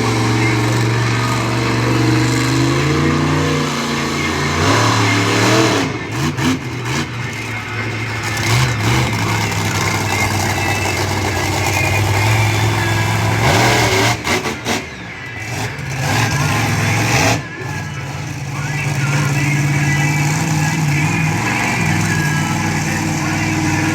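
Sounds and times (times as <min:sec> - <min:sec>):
truck engine revving: 0:00.0 - 0:23.9.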